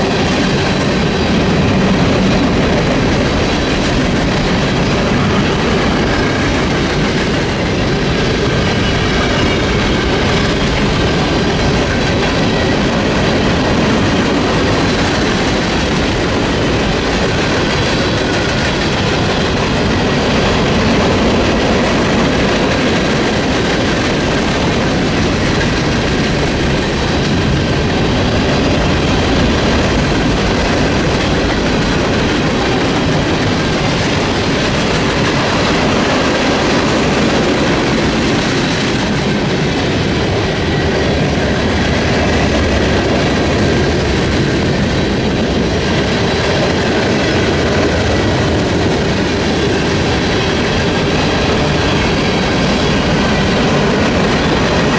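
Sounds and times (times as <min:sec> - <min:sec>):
clickety-clack over rail joints: 0:00.0 - 0:54.9
train wheels rumbling on rails: 0:00.0 - 0:54.9.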